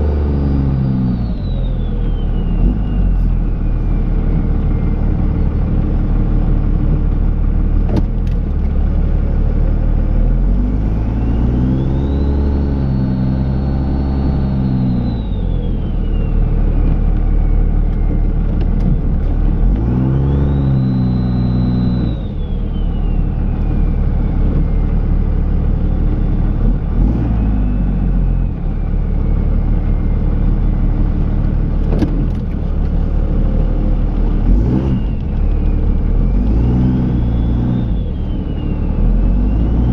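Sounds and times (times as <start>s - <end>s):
diesel engine revving: 0.0s - 39.9s
high engine whine: 0.0s - 39.9s.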